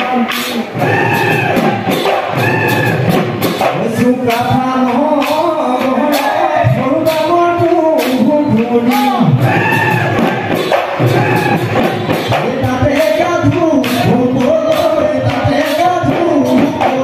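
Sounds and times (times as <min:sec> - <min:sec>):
drum and cymbal beat: 0:00.0 - 0:17.0
voices singing: 0:00.0 - 0:17.0.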